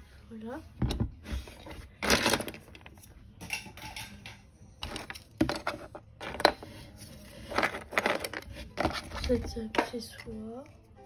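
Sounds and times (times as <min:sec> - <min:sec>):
plastic toys clattering: 0:00.9 - 0:10.4.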